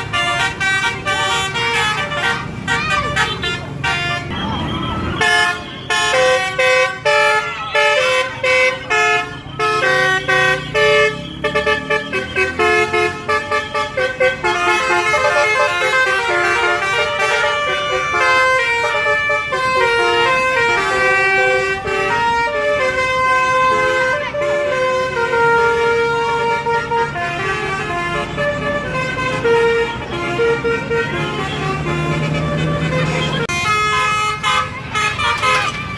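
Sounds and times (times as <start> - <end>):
musical air horns playing tune: 0.0 - 4.6, 5.2 - 35.9.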